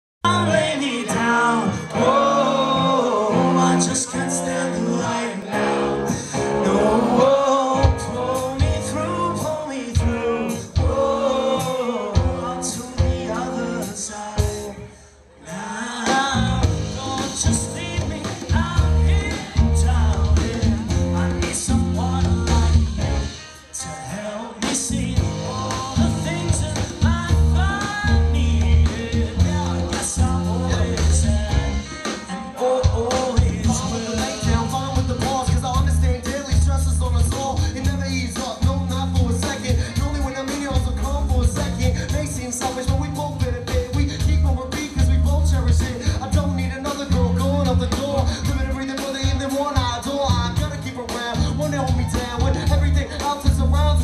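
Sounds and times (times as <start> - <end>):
electric guitar: 0.2 - 14.9, 16.1 - 54.0
live rock band playing: 0.2 - 14.9, 16.0 - 54.0
man singing: 0.2 - 54.0.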